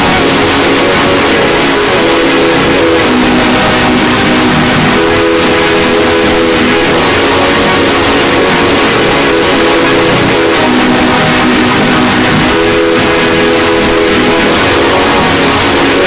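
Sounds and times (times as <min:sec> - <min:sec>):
distorted electronic noise: 0:00.0 - 0:16.0
steady buzzing tones: 0:00.0 - 0:16.0.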